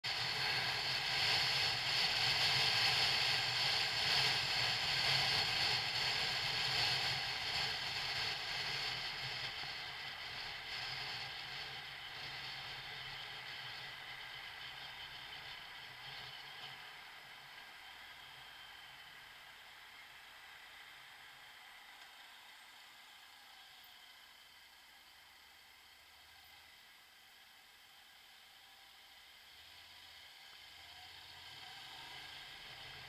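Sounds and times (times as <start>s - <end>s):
low motorcycle engine hum: 0.0s - 33.0s.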